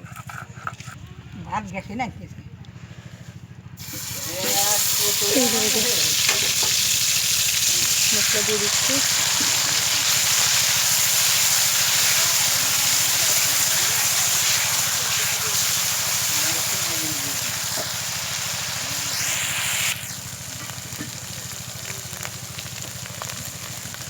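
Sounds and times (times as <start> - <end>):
spice paste sizzling in oil: 3.8 - 24.0.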